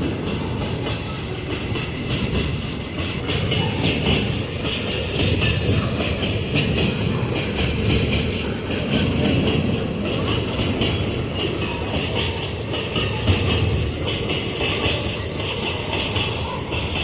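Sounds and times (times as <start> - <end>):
freight train rumble: 0.0 - 17.0
wheel on rail ringing: 0.0 - 17.0
wheels clacking over rail joints: 0.0 - 17.0.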